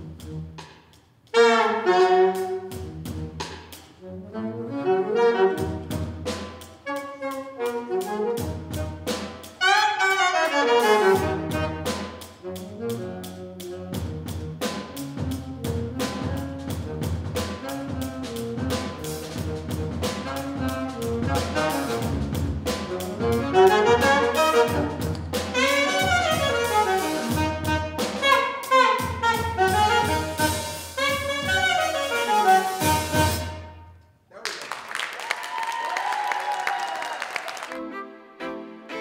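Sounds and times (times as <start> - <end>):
drum kit beat: 0.0 - 4.1, 5.3 - 33.8
pitch-shifted alto saxophone: 1.3 - 33.9.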